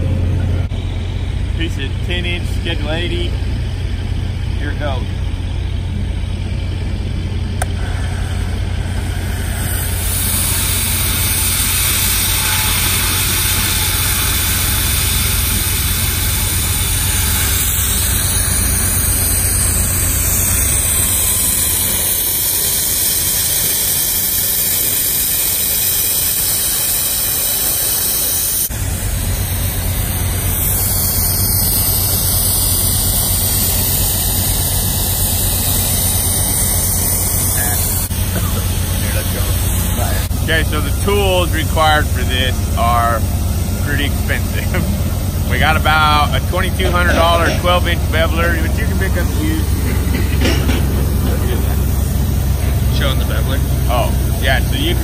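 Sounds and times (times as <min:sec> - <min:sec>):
low engine hum: 0:00.0 - 0:55.0
cutting torch hissing: 0:00.6 - 0:55.0.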